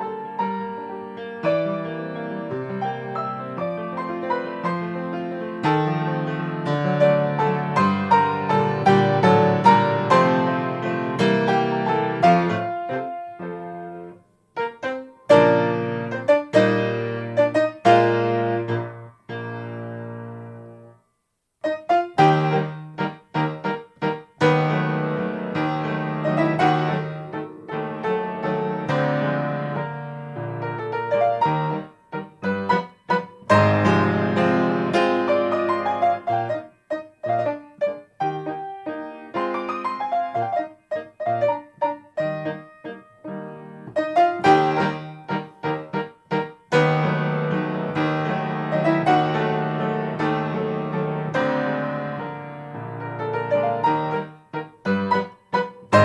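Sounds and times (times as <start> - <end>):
grand piano playing a waltz: 0.0 - 21.0, 21.6 - 56.0.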